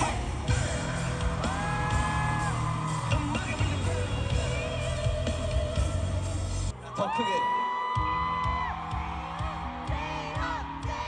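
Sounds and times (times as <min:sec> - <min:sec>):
heavy bass beat: 0:00.0 - 0:06.7, 0:08.0 - 0:11.0
crowd yelling: 0:00.0 - 0:11.0
live pop music: 0:00.0 - 0:11.0.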